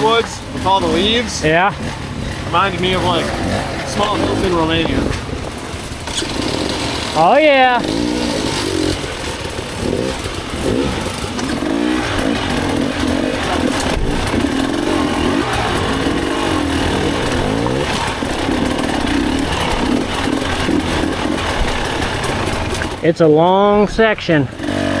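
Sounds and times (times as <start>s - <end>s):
dirt bike engine revving: 0.0s - 23.7s, 24.3s - 25.0s.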